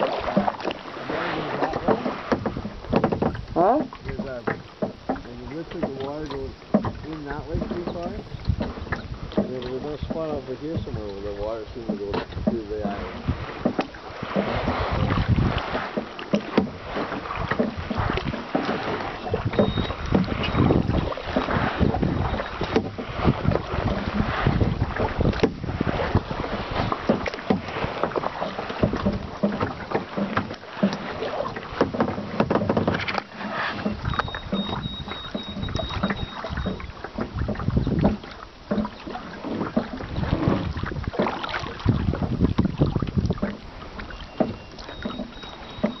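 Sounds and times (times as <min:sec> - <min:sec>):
water splashing against kayak hull: 0:00.0 - 0:46.0.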